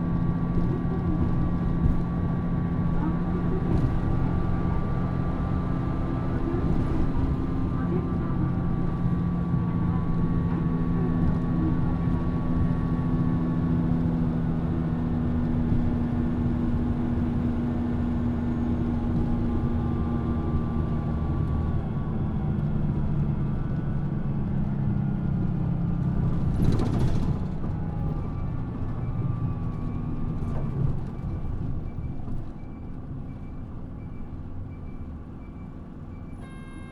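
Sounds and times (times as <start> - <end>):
bus engine droning: 0.0 - 36.9.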